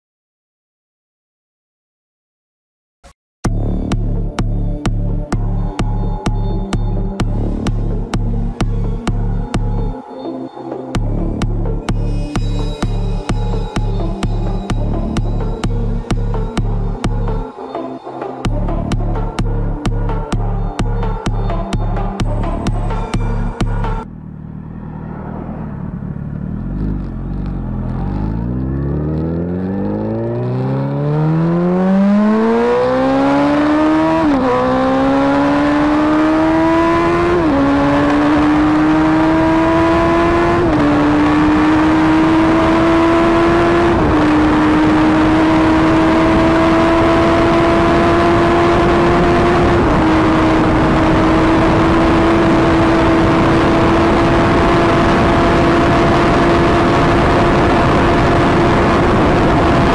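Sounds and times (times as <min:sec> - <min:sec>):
motorcycle engine accelerating: 0:03.5 - 0:10.0, 0:11.0 - 0:17.4, 0:18.5 - 0:59.9.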